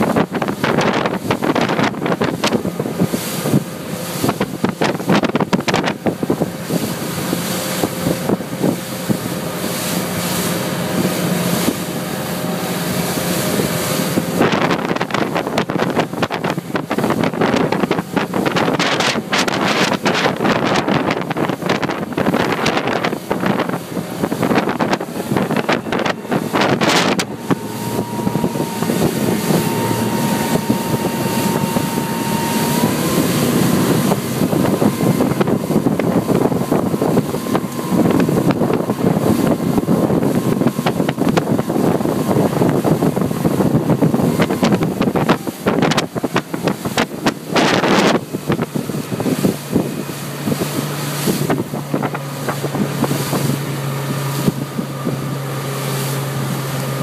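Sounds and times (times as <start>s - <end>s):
boat engine: 0.0s - 57.0s
rushing water: 0.0s - 57.0s
wind buffeting microphone: 0.0s - 57.0s.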